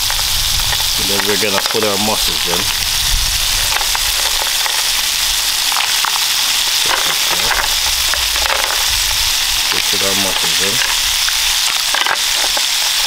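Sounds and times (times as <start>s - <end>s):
oil sizzling in a skillet: 0.0s - 13.0s.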